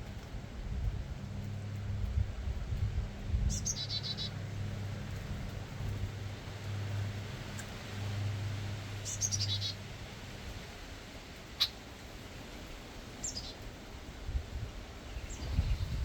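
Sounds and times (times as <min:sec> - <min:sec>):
low steady hum: 0:00.0 - 0:16.0
songbirds chirping: 0:00.1 - 0:16.0.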